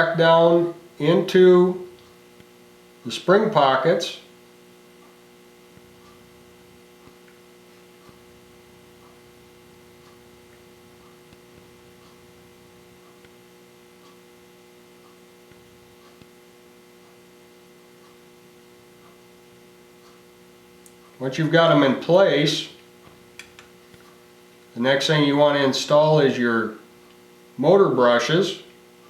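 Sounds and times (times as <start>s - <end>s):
mains hum: 0.0s - 29.0s.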